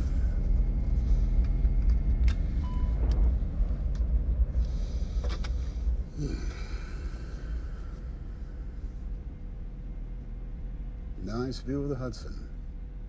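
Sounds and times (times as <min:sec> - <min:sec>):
engine and airflow rumble: 0:00.0 - 0:13.0.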